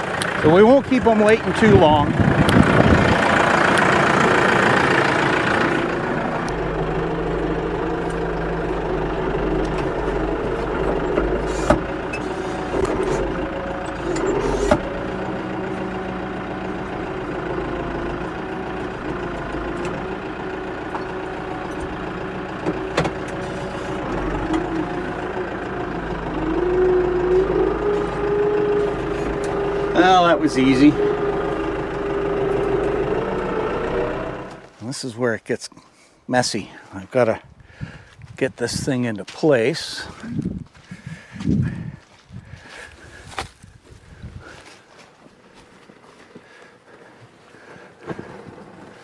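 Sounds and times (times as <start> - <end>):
tractor engine running: 0.0 - 35.6, 36.3 - 49.0.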